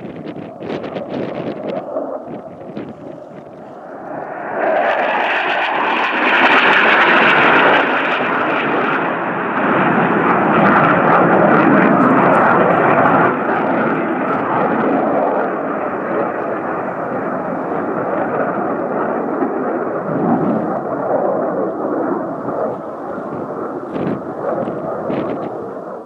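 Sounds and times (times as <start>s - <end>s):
fighter jet passing: 0.0s - 26.0s.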